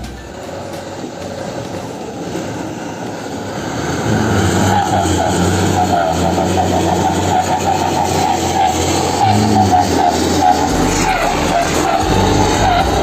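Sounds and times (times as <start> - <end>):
truck engine running under load: 0.0 - 13.0.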